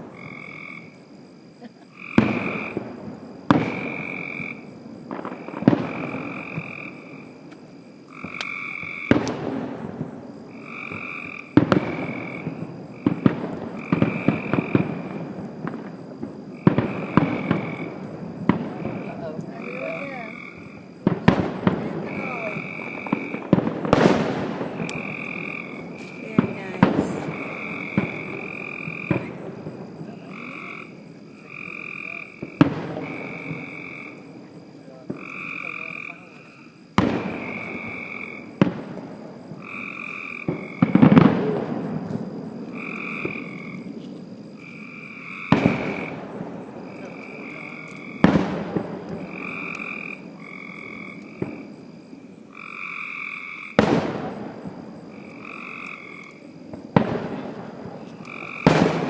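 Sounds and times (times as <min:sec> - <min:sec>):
frog croaking: 0:00.0 - 0:42.0, 0:42.6 - 0:53.9, 0:55.0 - 0:59.0
firework bursts booming: 0:00.0 - 0:59.0.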